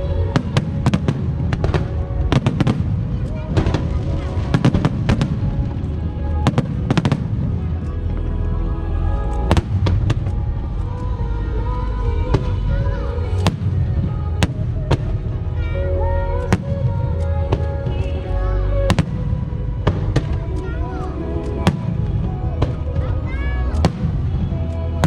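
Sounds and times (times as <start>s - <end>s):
fireworks bangs: 0.0s - 8.4s, 9.4s - 10.8s, 12.1s - 25.0s
crowd voices: 0.0s - 25.0s
low rumble: 0.0s - 25.0s
music playing: 0.0s - 25.0s.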